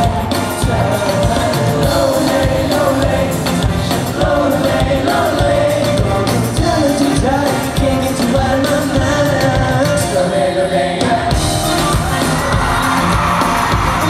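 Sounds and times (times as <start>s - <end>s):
group singing: 0.0s - 14.0s
live pop band playing: 0.0s - 14.0s.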